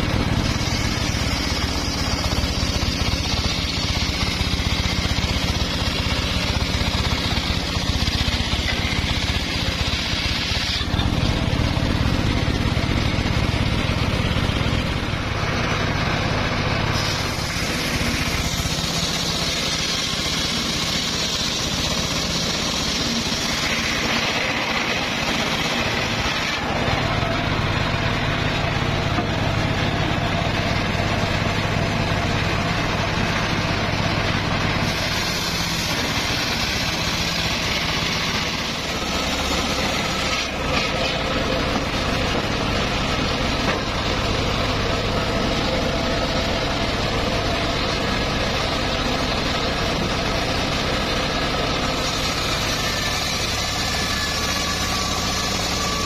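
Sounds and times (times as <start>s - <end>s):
saw blade cutting wood: 0.0s - 56.0s
saw motor droning: 0.0s - 56.0s.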